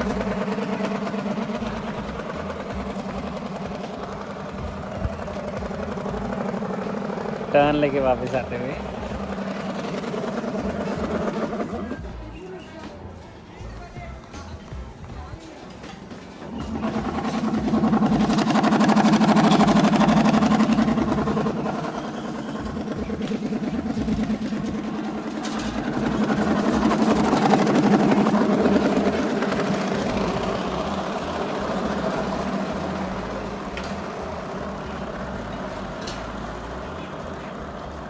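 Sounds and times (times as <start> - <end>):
bicycle wheel putt-putt rattle: 0.0 - 12.4, 15.5 - 38.0.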